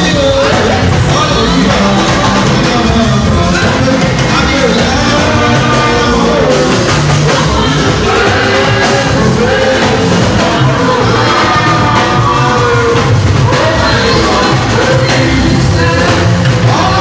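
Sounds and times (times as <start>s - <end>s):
drum kit: 0.0s - 17.0s
people singing into microphones: 0.0s - 17.0s.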